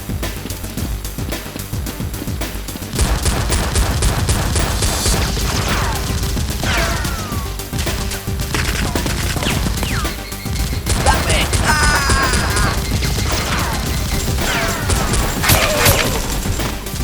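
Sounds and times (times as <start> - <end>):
background music: 0.0 - 17.0
rapid gunfire: 0.0 - 17.0.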